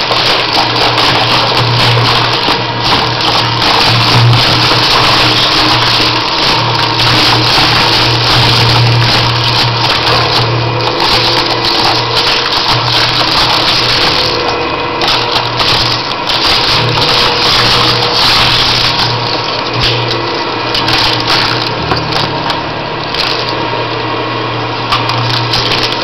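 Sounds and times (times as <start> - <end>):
shredder crunching discs: 0.0 - 26.0
shredder humming: 0.0 - 26.0.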